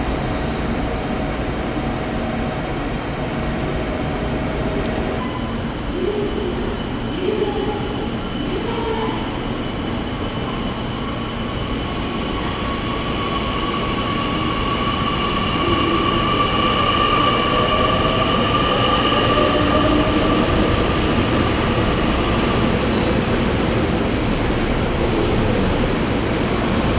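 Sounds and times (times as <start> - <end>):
train moving with whine: 0.0 - 26.9.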